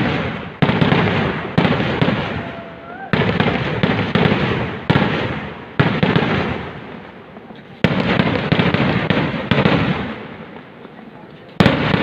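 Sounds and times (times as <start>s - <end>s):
fireworks bangs: 0.0s - 12.0s
fireworks crackling rumble: 0.0s - 12.0s.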